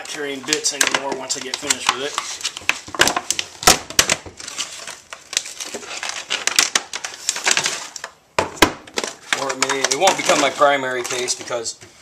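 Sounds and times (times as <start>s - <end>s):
plastic packaging crackling: 0.0s - 11.8s.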